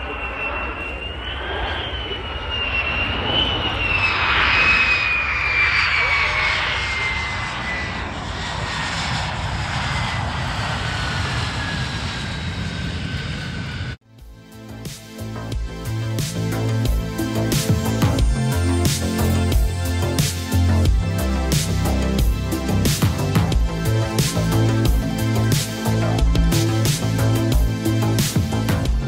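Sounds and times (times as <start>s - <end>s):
jet engine turbine whine: 0.0s - 14.0s, 14.7s - 29.0s.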